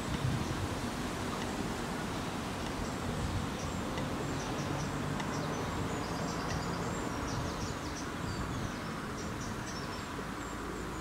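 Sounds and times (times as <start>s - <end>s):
wind in trees: 0.0s - 11.0s
small birds twittering: 1.3s - 11.0s.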